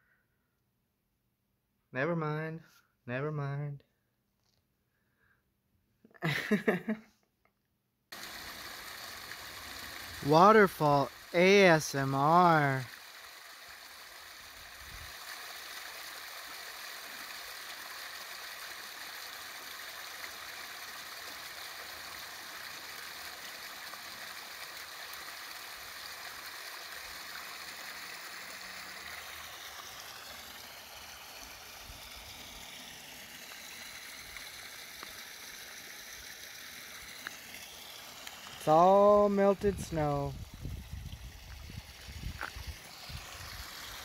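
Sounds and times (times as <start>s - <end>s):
small waterfall splashing: 8.1s - 44.0s.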